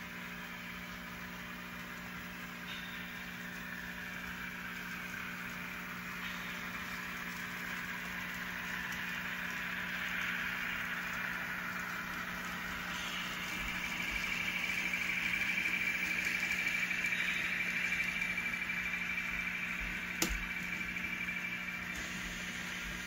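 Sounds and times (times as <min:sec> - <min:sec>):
steady low hum: 0:00.0 - 0:23.0
model train whirring rattle: 0:00.3 - 0:23.0.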